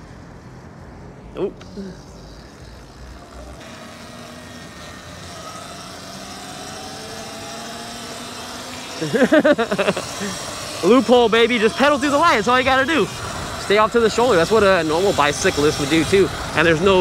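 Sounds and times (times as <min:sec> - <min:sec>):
vehicle motor running: 0:00.0 - 0:17.0.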